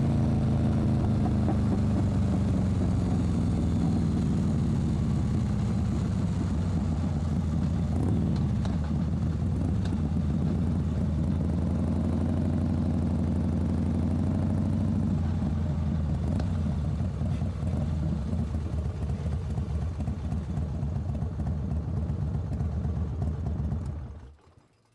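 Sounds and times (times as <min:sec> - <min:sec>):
motorcycle engine droning: 0:00.0 - 0:24.3.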